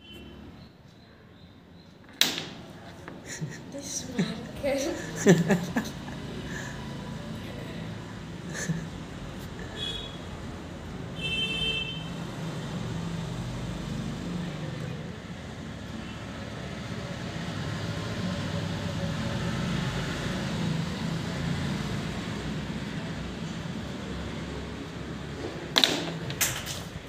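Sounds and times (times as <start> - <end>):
background traffic noise: 0.0 - 27.0.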